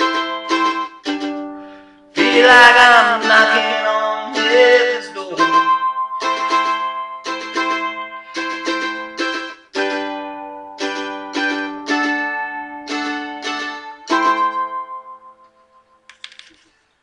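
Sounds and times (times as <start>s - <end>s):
mandolin strumming chords: 0.0s - 16.4s.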